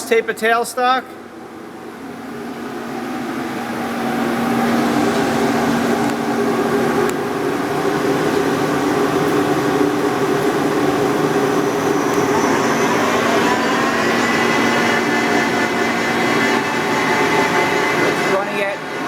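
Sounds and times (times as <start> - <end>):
lathe running with whine: 1.5 - 19.0.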